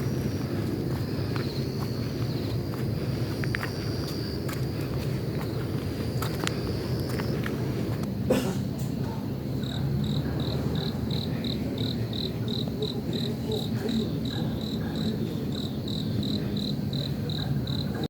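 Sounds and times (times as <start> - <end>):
cricket chirping: 0.0 - 8.5, 9.1 - 18.0.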